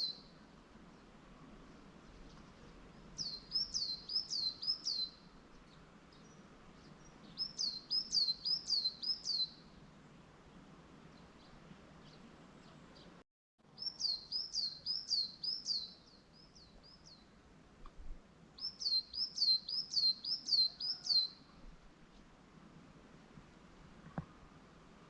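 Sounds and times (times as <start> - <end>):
songbird singing: 0.0 - 22.4.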